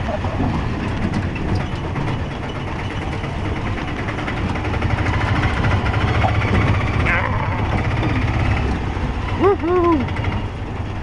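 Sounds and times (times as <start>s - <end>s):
auto-rickshaw engine running: 0.0s - 11.0s
road and traffic noise: 0.0s - 11.0s.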